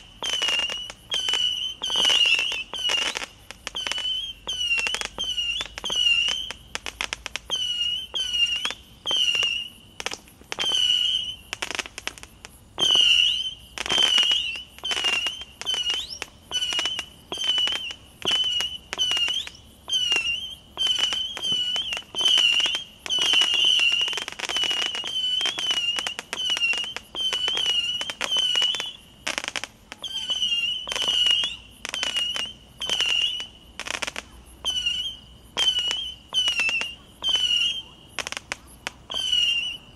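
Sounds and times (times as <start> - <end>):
firework cracks: 0.0 - 39.9
firework whistling shots: 0.0 - 39.9.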